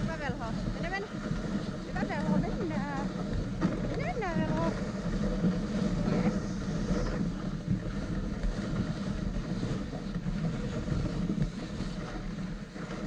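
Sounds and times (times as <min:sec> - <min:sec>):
sled runners scraping on snow: 0:00.0 - 0:13.0
wind on microphone: 0:00.0 - 0:13.0.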